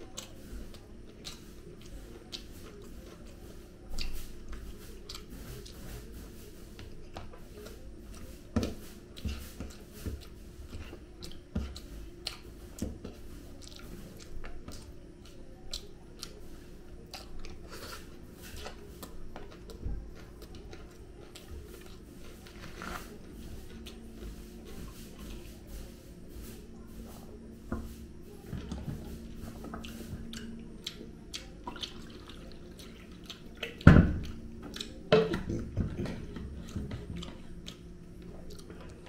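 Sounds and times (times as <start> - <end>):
person chewing with mouth clicks: 0.0 - 25.5, 28.6 - 39.0
steady low hum: 0.0 - 39.0.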